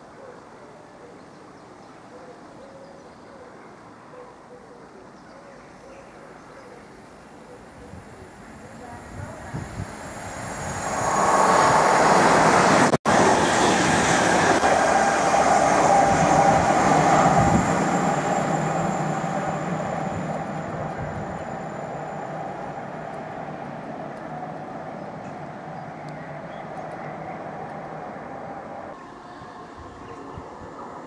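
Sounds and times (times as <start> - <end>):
train passing: 5.7 - 31.0.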